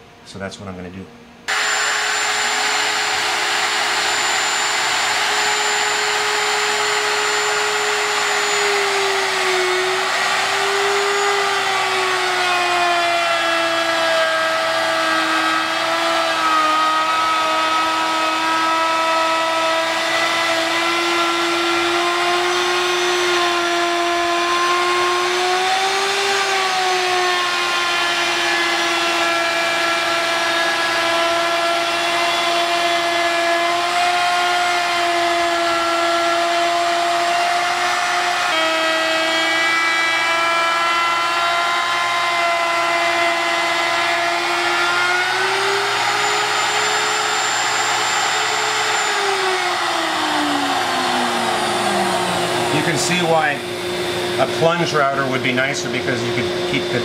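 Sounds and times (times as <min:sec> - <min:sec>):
dust extraction vacuum: 0:01.5 - 0:57.0
router motor whining: 0:01.5 - 0:57.0.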